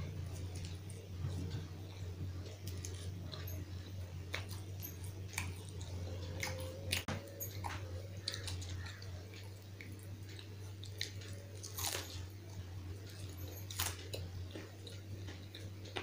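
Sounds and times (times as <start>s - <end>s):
chewing and crunching crisp food: 0.0s - 16.0s
steady low hum: 0.0s - 16.0s.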